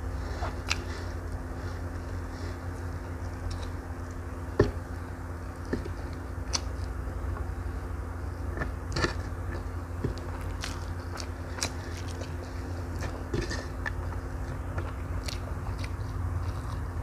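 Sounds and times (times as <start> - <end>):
steady low hum: 0.0 - 17.0
person chewing food: 0.1 - 7.4, 8.4 - 17.0.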